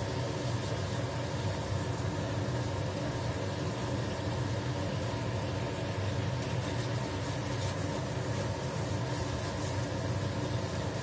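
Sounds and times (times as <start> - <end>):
food frying in a pan: 0.0 - 11.0
range hood fan humming: 0.0 - 11.0.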